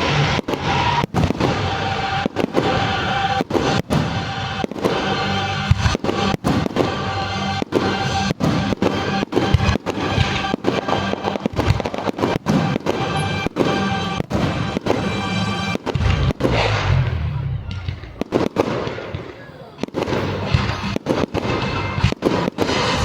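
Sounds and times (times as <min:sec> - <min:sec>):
loud music: 0:00.0 - 0:18.4, 0:20.3 - 0:23.0
fireworks banging and crackling: 0:00.0 - 0:23.0.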